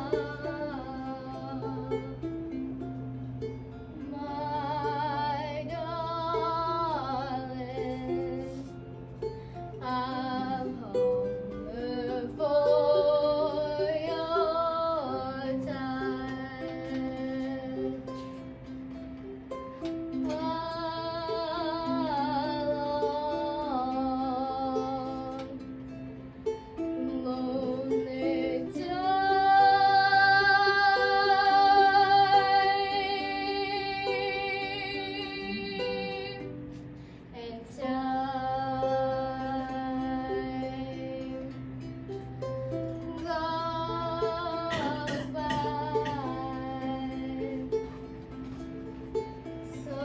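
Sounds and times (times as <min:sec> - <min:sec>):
girls singing slow melody: 0:00.0 - 0:18.7, 0:19.4 - 0:50.0
ukulele strumming: 0:00.0 - 0:50.0.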